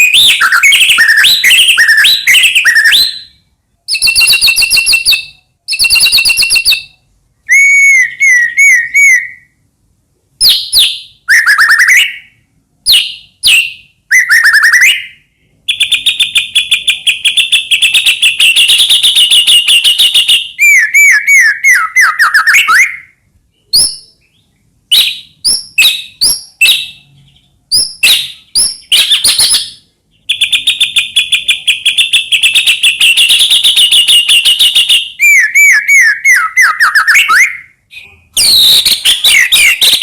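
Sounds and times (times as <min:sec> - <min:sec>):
songbird whistles and trills: 0:00.0 - 0:09.6, 0:10.4 - 0:40.0.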